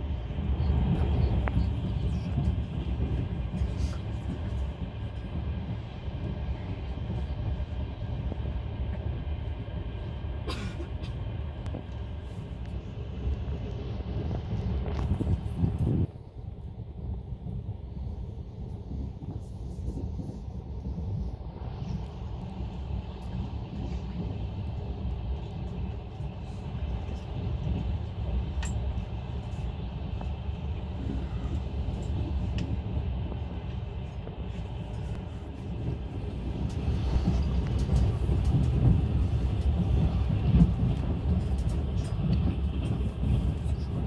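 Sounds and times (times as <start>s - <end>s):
train rumbling on rails: 0.0s - 44.0s.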